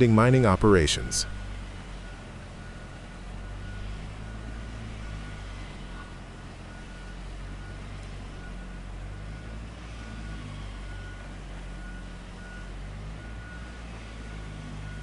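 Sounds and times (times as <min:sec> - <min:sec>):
bulldozer diesel engine running: 0:00.0 - 0:15.0
reversing alarm beeping: 0:00.0 - 0:15.0.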